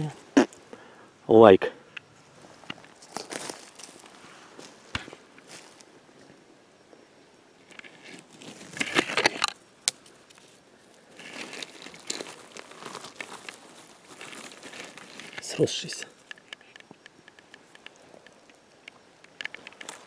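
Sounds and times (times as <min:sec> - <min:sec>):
forest floor rustling and crackling: 0:01.8 - 0:20.0.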